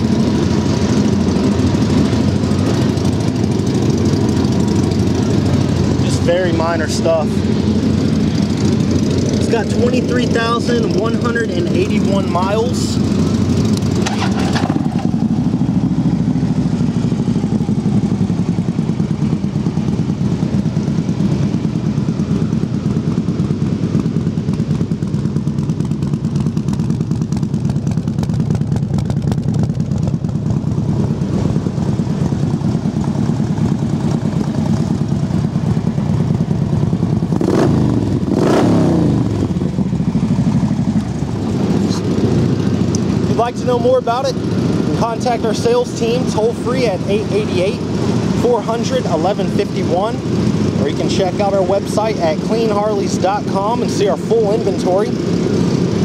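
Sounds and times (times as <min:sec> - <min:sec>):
motorcycle engine idling: 0:00.0 - 0:56.0
motorcycle engine revving: 0:00.0 - 0:56.0.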